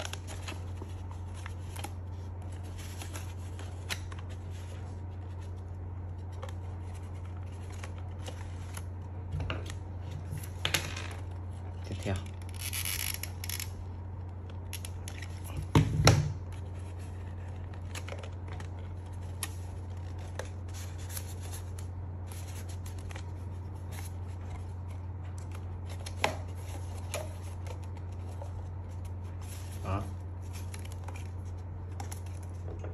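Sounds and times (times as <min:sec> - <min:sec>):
paper rustling: 0:00.0 - 0:11.6, 0:16.4 - 0:32.7
steady low hum: 0:00.0 - 0:32.9.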